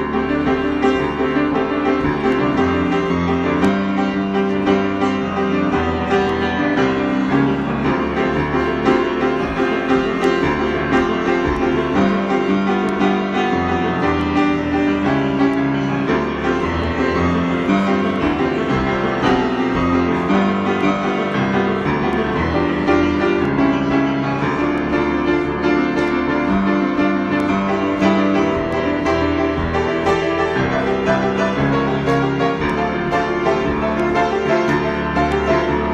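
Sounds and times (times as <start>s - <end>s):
piano improvisation: 0.0s - 35.9s.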